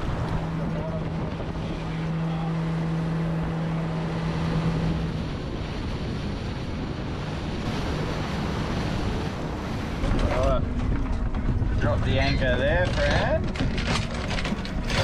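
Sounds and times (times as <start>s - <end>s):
outboard motor humming: 0.0s - 15.0s
water rushing past hull: 0.0s - 15.0s
wind buffeting microphone: 0.0s - 15.0s.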